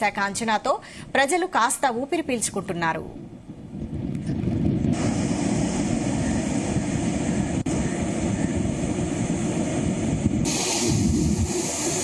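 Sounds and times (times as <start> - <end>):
storm wind across microphone: 0.0 - 12.0.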